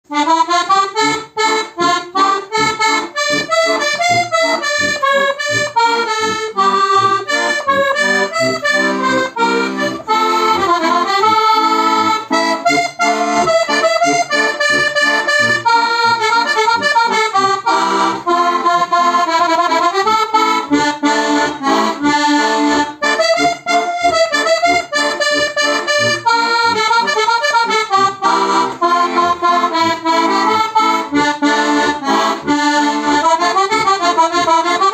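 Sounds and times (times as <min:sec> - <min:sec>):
button accordion playing folk tune: 0:00.0 - 0:34.9.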